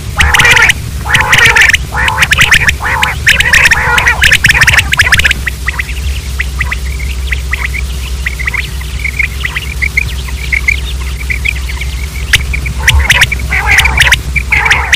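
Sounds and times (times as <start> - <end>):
quail chirping: 0.0 - 14.9
steady low hum: 0.0 - 14.9.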